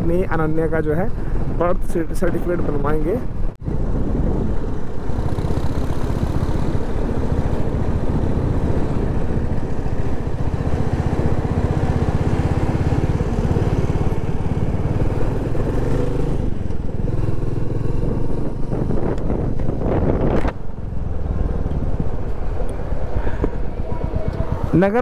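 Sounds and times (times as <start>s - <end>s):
wind noise on microphone: 2.5s - 25.0s
motorcycle engine running: 3.6s - 25.0s.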